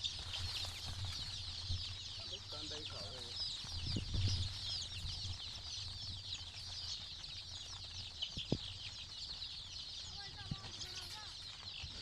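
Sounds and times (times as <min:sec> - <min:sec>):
chickens peeping: 0:00.0 - 0:12.0.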